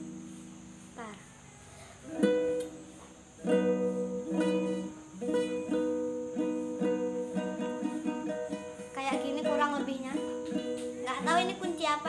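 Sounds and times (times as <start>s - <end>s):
nylon-string guitar strumming: 2.0s - 12.0s.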